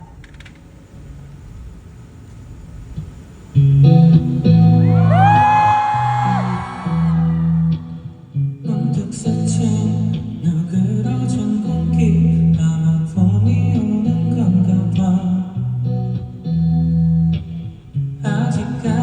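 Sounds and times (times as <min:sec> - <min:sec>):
band with electric guitar and bass: 0:03.6 - 0:19.0.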